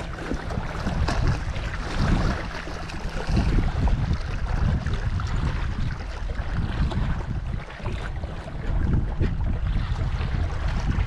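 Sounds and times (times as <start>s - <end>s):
waves lapping against rocks: 0.0s - 11.0s
wind buffeting microphone: 0.0s - 11.0s.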